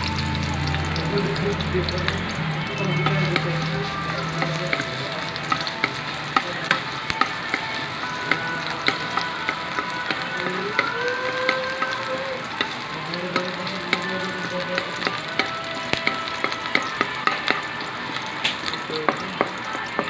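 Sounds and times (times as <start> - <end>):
garlic sizzling on pan: 0.0 - 20.0
spatula tapping and scraping pan: 3.0 - 20.0.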